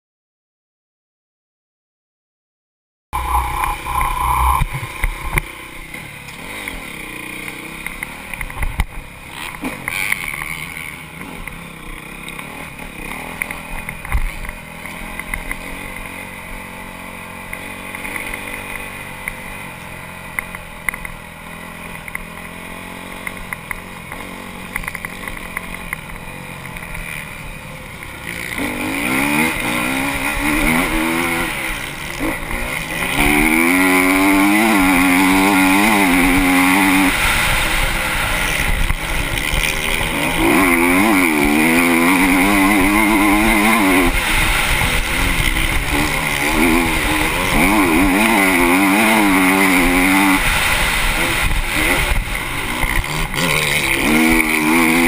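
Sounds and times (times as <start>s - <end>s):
motocross engine running: 3.2s - 55.0s.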